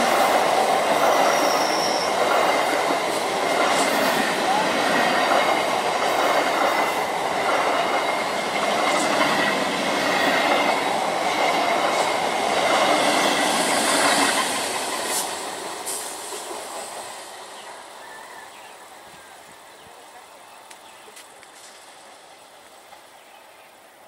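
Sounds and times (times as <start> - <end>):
train passing: 0.0 - 24.0.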